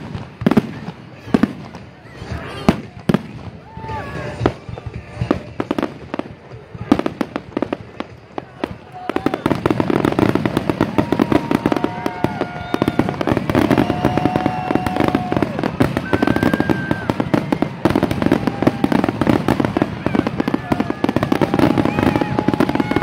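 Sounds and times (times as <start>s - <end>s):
fireworks crackling and bangs: 0.0s - 23.0s
fireworks whistling: 0.0s - 23.0s.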